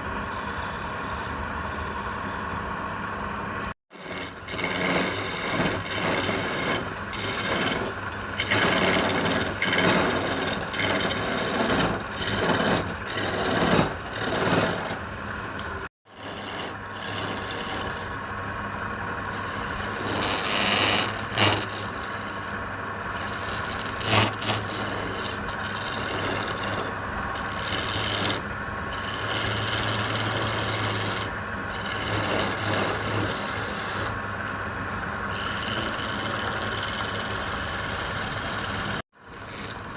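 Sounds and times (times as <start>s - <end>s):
rasping strokes on wood: 3.9s - 18.2s, 19.3s - 34.2s, 35.3s - 39.9s.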